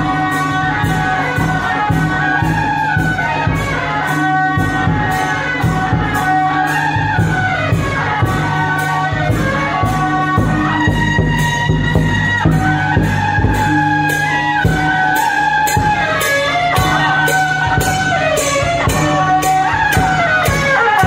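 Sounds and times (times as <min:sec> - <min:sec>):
cymbal clashes: 0:00.0 - 0:21.0
horn melody: 0:00.0 - 0:21.0.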